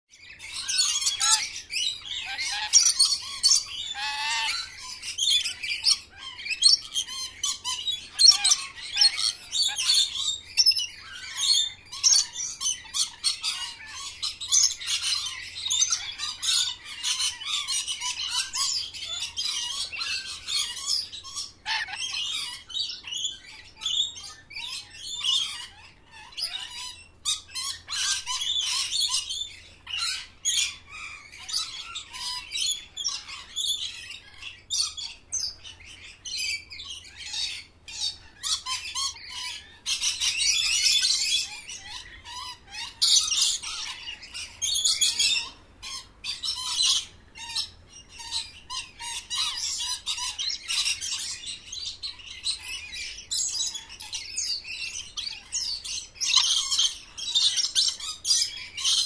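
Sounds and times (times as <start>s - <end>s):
many birds chirping: 0.1s - 59.0s.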